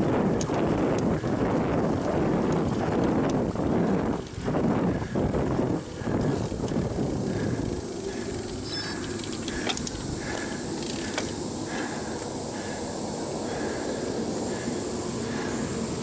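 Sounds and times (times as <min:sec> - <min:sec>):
bicycle clicks and rattles: 0:00.0 - 0:12.9
bicycle road and wind noise: 0:00.0 - 0:16.0.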